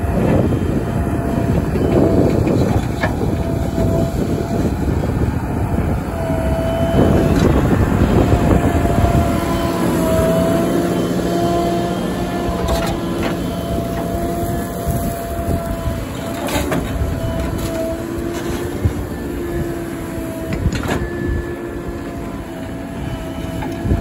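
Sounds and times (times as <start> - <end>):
diesel engine rumbling under load: 0.0 - 24.0.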